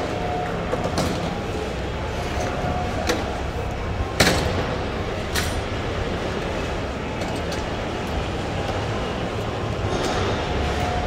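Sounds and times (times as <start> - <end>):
rumbling hall background noise: 0.0 - 11.0.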